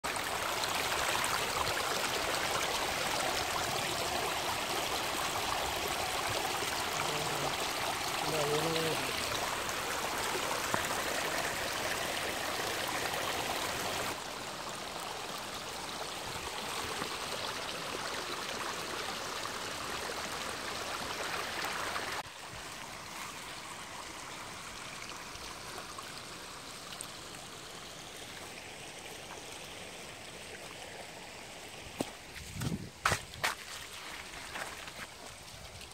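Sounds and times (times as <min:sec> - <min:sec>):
stream trickling: 0:00.0 - 0:35.9.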